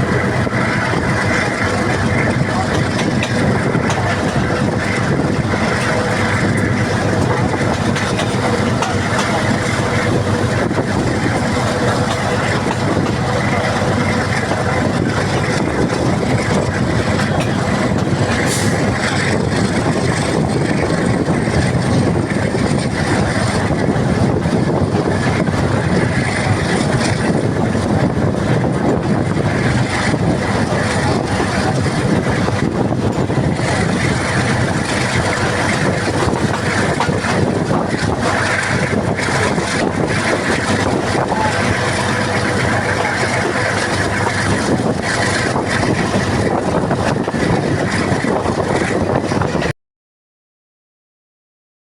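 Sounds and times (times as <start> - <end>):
train wheels on track: 0.0 - 49.7.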